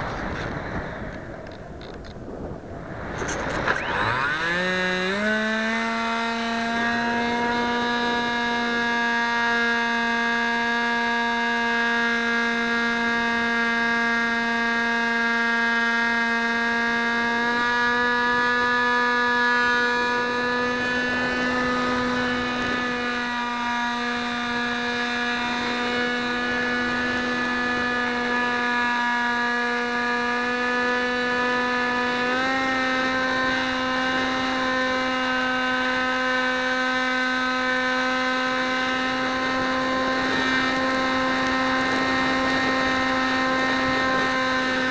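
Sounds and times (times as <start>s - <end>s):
model aircraft motor droning: 0.0s - 44.9s.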